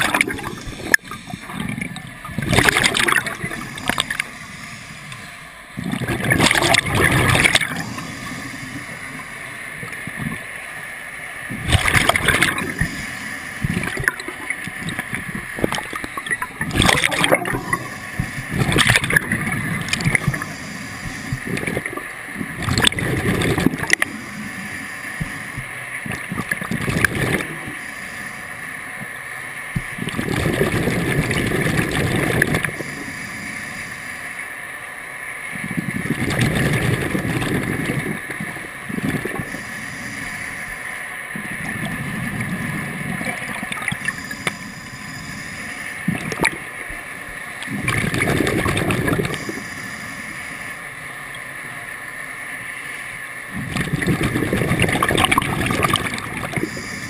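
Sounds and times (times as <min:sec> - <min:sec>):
exhaled bubbles gurgling underwater: 0:00.0 - 0:34.6, 0:35.4 - 0:57.0.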